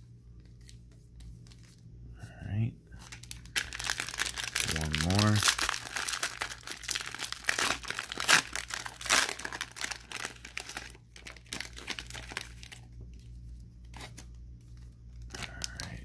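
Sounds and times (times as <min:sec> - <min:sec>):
plastic wrapping crinkling and tearing: 0:03.0 - 0:16.0.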